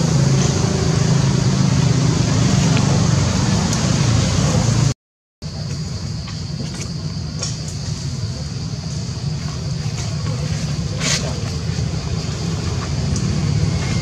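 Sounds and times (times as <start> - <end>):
low motor-like rumble with hiss: 0.0 - 14.0.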